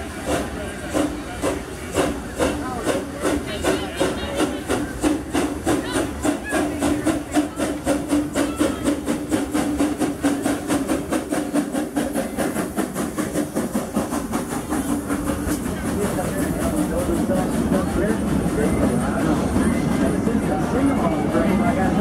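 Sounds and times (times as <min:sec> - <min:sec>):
steam hissing: 0:00.0 - 0:22.0
steam locomotive chuffing: 0:00.0 - 0:22.0.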